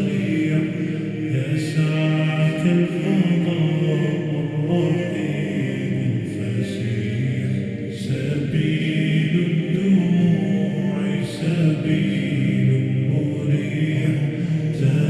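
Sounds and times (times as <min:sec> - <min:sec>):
male voices chanting with reverb: 0:00.0 - 0:15.0.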